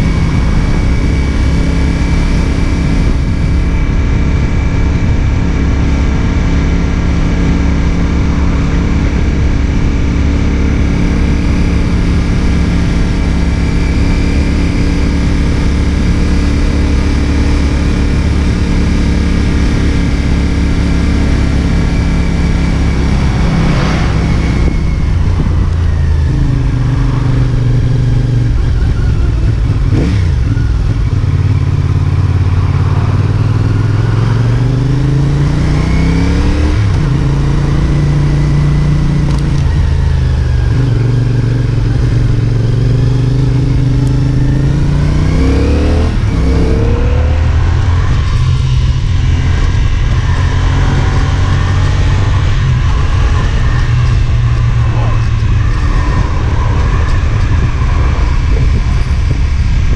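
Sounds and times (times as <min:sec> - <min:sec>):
motorcycle engine revving through gears: 0:00.0 - 0:59.9.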